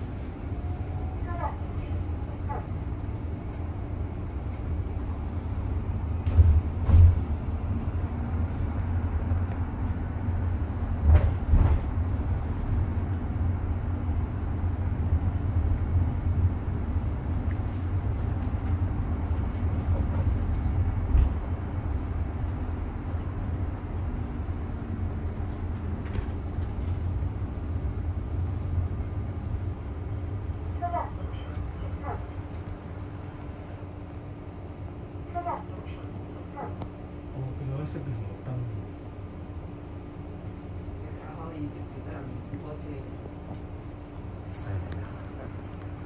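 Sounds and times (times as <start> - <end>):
bus cabin low rumble: 0.0 - 46.0.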